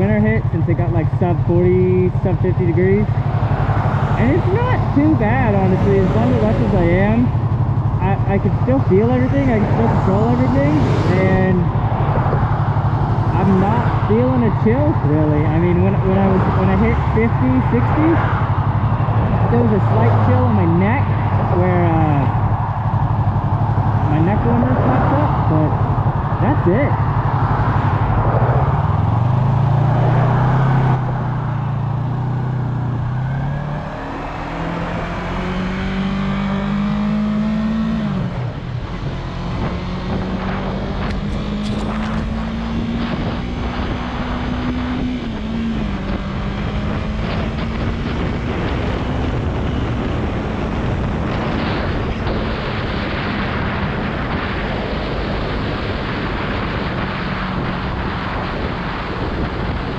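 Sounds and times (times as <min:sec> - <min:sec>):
motorcycle engine shifting gears: 0:00.0 - 0:59.9
wind rushing: 0:03.1 - 0:14.1, 0:16.2 - 0:59.9.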